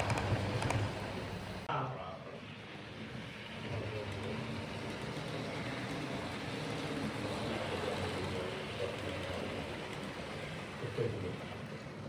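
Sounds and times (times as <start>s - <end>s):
model train rumbling on track: 0.0s - 12.0s.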